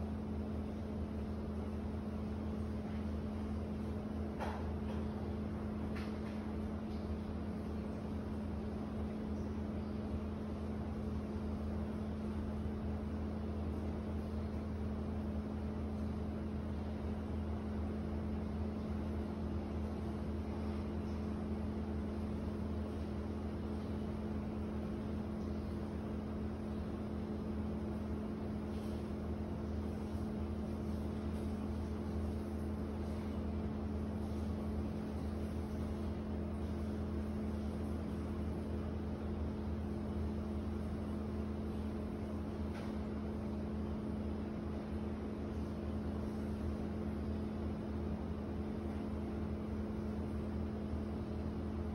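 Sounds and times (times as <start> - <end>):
low mechanical drone: 0.0 - 51.9.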